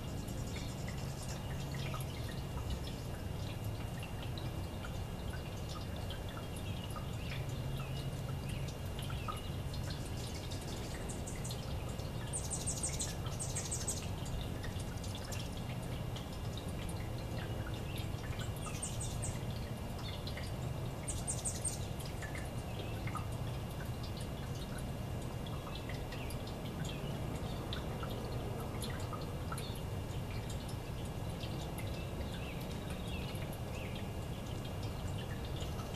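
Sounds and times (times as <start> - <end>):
fountain water trickling: 0.0 - 35.9.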